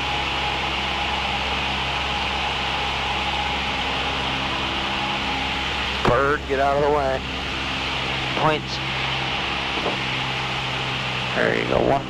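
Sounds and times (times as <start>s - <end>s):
propeller plane engine: 0.0s - 12.0s.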